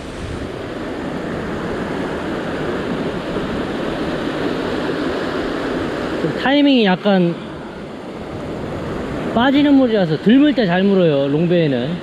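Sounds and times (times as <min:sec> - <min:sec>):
ocean surf over rocks: 0:00.0 - 0:12.0.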